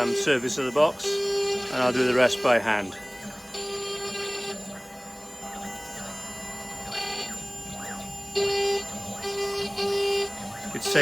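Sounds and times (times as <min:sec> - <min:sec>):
cnc router motors whining: 0:00.0 - 0:11.0.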